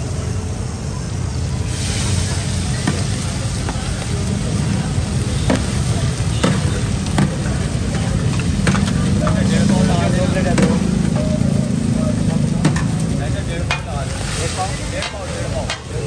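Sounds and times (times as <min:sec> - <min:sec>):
low rumble of street noise: 0:00.0 - 0:16.0
fish sizzling in hot oil: 0:00.1 - 0:16.0.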